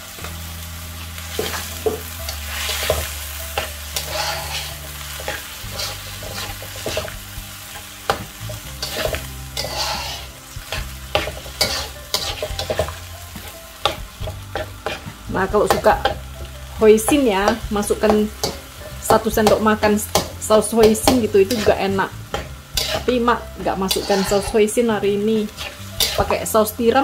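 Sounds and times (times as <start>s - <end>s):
meat sizzling in a wok: 0.0s - 27.0s
metal spatula scraping a pan: 1.2s - 26.6s.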